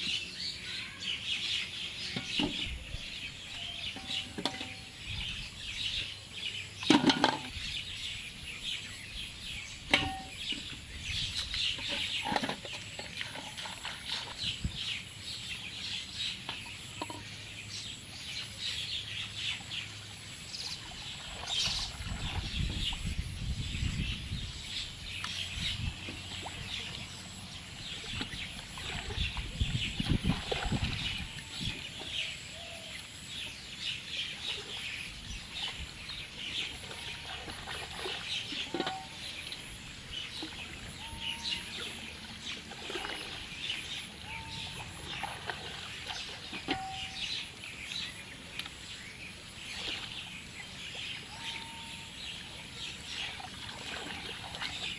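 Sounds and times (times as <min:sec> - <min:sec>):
birds chirping: 0:00.0 - 0:54.9
water sloshing from wading: 0:01.2 - 0:23.4, 0:24.6 - 0:54.9.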